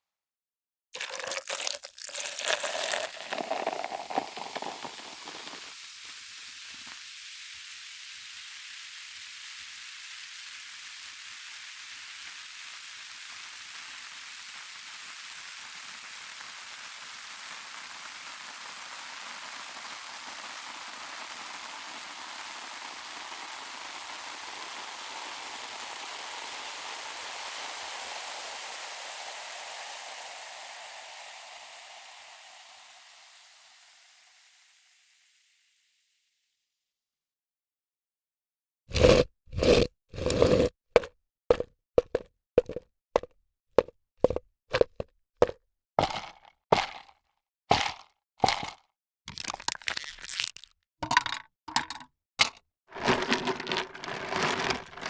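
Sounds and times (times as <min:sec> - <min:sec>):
carbonated drink fizzing: 0:01.0 - 0:34.4, 0:38.9 - 0:47.1, 0:47.7 - 0:52.0, 0:52.9 - 0:55.0.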